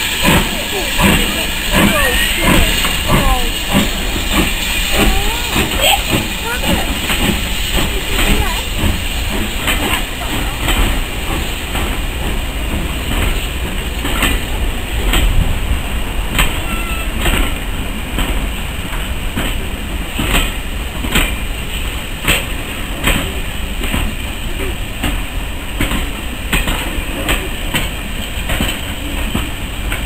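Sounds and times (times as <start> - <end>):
train low rumble: 0.0 - 30.0
wheels clicking over rail joints: 0.0 - 30.0.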